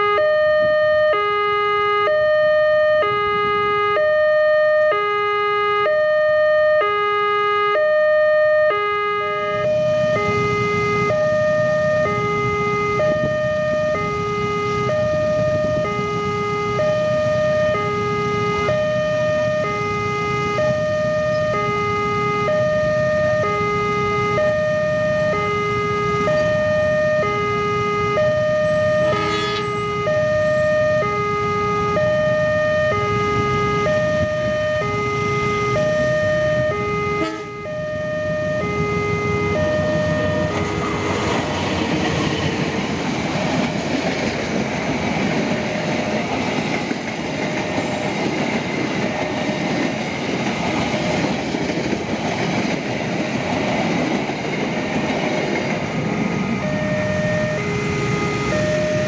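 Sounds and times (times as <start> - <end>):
two-tone crossing alarm: 0.0 - 59.0.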